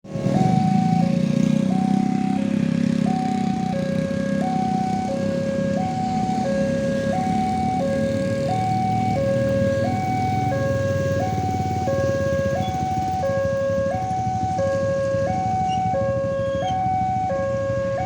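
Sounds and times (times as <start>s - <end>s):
two-tone warning siren: 0.0s - 18.0s.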